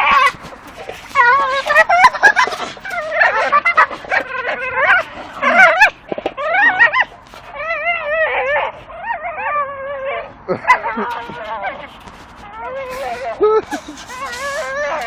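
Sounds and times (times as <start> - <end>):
dog whining and squealing: 0.0 - 15.0.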